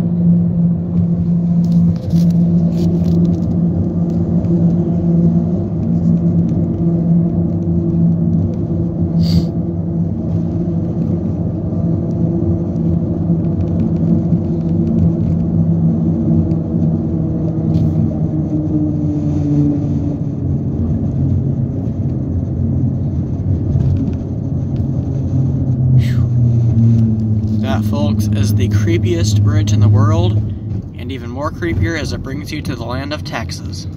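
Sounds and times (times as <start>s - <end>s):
road noise: 0.0s - 33.9s.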